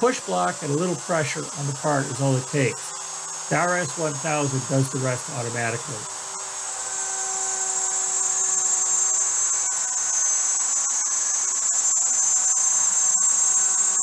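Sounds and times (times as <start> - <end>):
router whining while cutting wood: 0.0 - 14.0.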